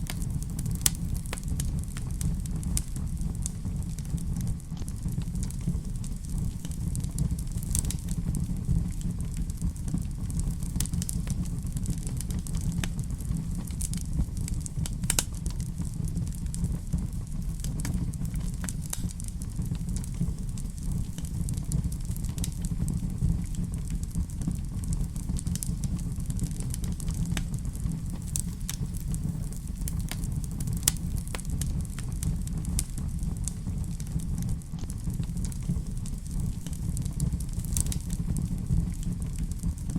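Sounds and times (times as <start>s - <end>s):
fire crackles and pops: 0.0s - 39.9s
fire flames rumbling: 0.0s - 39.9s.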